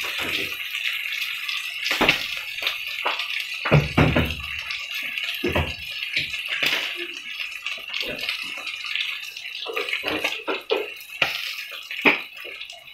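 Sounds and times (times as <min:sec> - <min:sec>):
steak sizzling in oil: 0:00.0 - 0:12.9.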